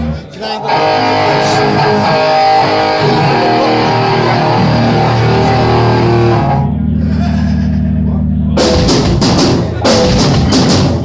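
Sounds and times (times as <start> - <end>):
electric guitar ringing notes: 0.0 - 10.8.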